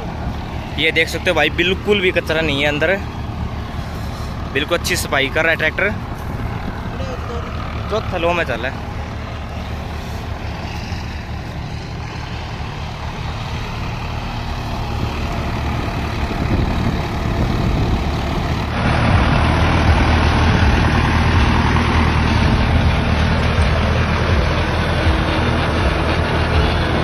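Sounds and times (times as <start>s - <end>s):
diesel tractor engine running: 0.0s - 27.0s
louder tractor engine: 0.0s - 27.0s.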